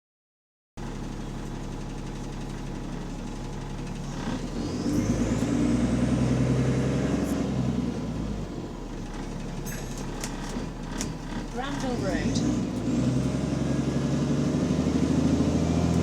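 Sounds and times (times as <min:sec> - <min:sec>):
bus diesel engine: 0:00.8 - 0:16.0.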